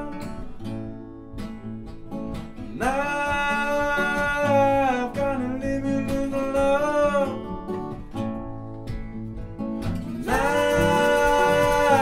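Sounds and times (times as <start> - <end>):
acoustic guitars strumming: 0.0 - 12.0.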